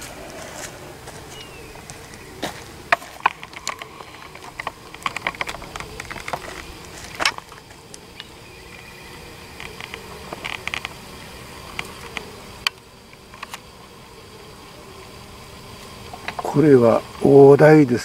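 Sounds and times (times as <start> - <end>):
bees buzzing faintly: 0.0 - 18.0.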